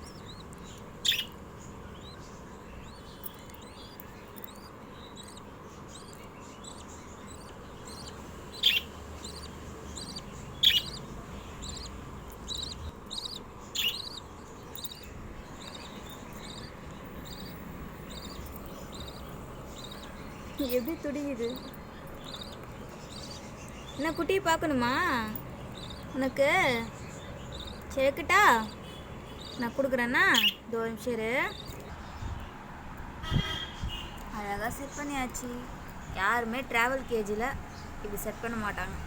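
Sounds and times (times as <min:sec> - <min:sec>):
lovebirds sharp calls: 0:00.0 - 0:32.6.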